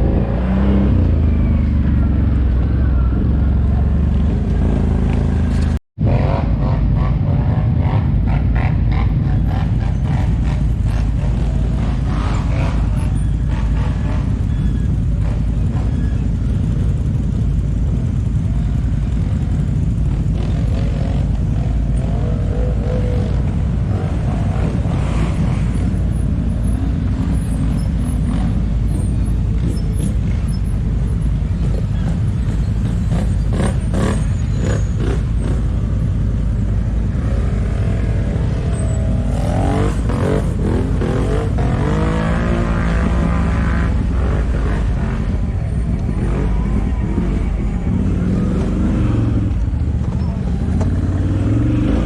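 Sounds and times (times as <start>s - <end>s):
atv engines rumbling: 0.0s - 52.0s.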